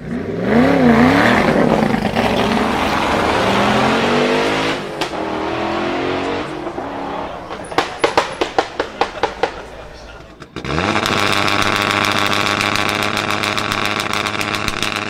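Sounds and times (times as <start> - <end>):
car engine revving hard: 0.0 - 15.0
exhaust bang: 0.6 - 15.0
exhaust pops: 0.6 - 15.0.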